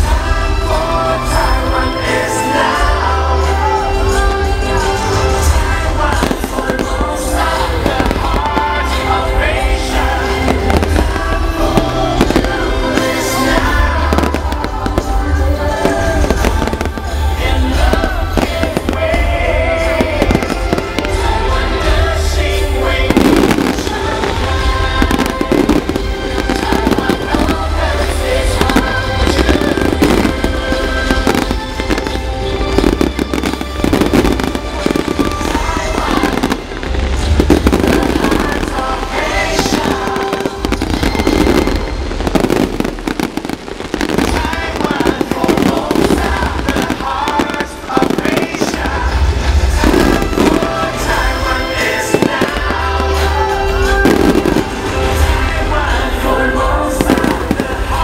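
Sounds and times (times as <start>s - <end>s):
fireworks exploding: 0.0s - 58.0s
music playing: 0.0s - 58.0s.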